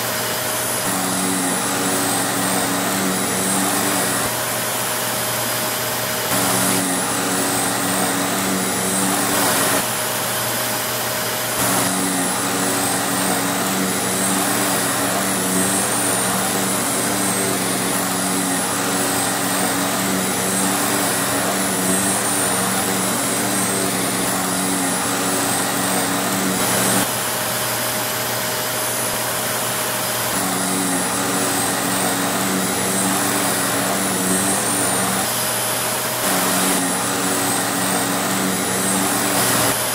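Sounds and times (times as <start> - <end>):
motor hum: 0.0 - 28.2, 30.0 - 39.9
vacuum cleaner rushing noise: 0.0 - 39.9.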